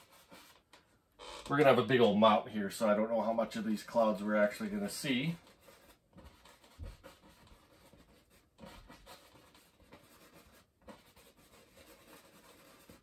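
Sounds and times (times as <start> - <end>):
brush bristles scratching on canvas: 0.0 - 0.6, 3.2 - 13.0.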